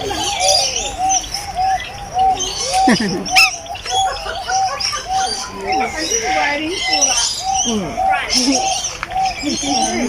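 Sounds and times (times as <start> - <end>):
parrots chirping: 0.0 - 10.0.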